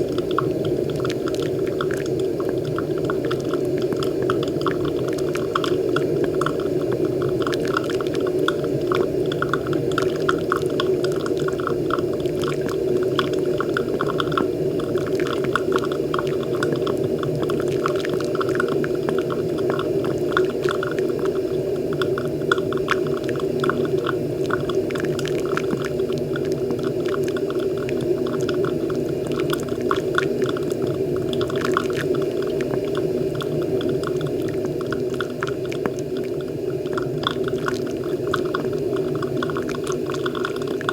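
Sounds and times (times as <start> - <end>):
coffee maker bubbling and gurgling: 0.0 - 40.9
small crackles and drips: 0.0 - 40.9.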